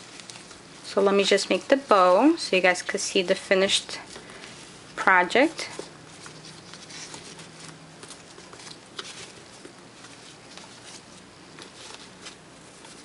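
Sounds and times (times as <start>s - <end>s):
ribbon rustling and sliding: 0.0s - 13.0s.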